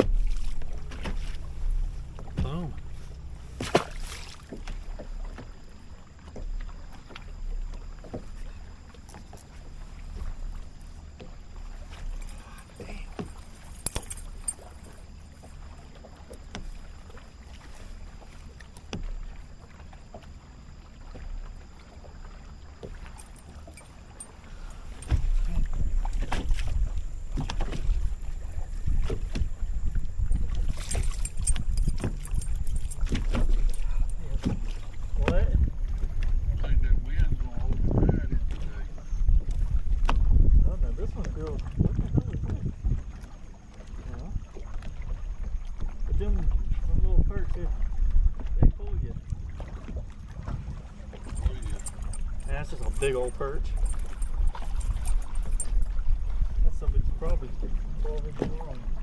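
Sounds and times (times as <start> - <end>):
light water slaps: 0.0 - 59.0
low rumble of wind and water: 0.0 - 59.0.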